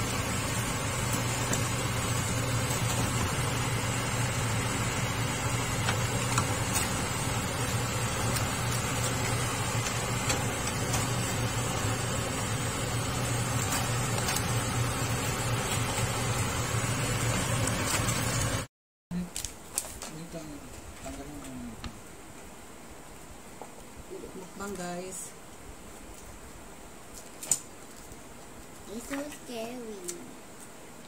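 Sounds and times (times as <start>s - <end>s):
mechanical hum and hiss: 0.0s - 31.0s.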